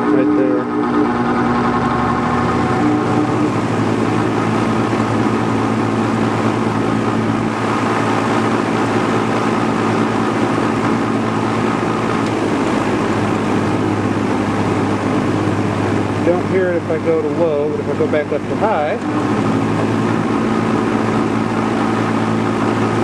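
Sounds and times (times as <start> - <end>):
fan air rush: 0.0 - 23.0
fan motor hum: 0.0 - 23.0.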